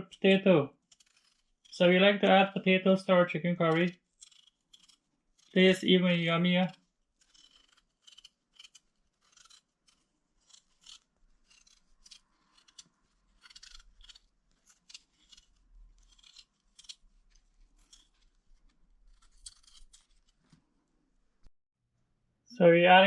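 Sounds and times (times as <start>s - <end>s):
blade scraping potatoes: 0.0s - 20.7s.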